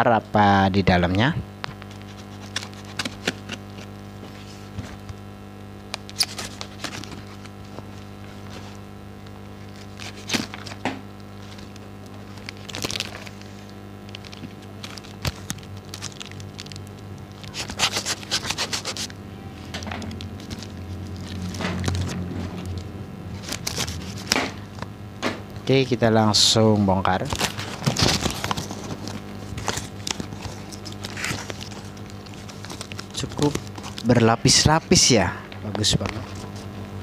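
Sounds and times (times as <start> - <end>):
steady low hum: 0.0 - 37.0
tape and cardboard crackling: 1.7 - 25.7, 27.0 - 34.3.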